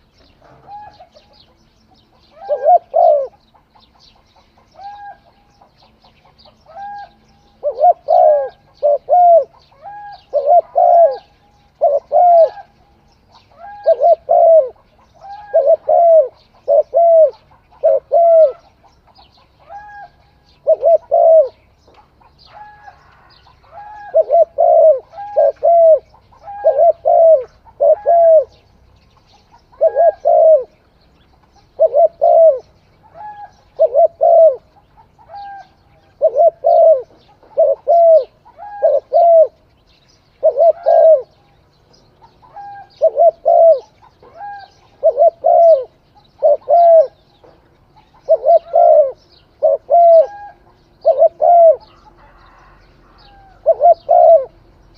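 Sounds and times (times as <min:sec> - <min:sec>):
dove cooing: 0:00.0 - 0:39.6, 0:40.4 - 0:41.5, 0:42.1 - 0:54.7.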